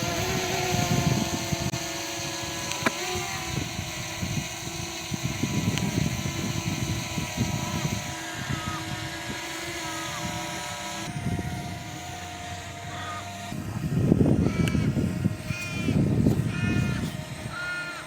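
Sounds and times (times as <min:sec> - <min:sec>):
drone propellers whining: 0:00.0 - 0:18.0
wind rumbling on microphone: 0:00.0 - 0:18.0.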